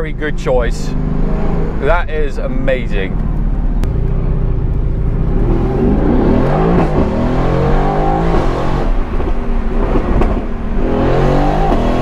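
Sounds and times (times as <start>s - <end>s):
car engine accelerating hard: 0.1s - 2.2s, 2.8s - 12.0s.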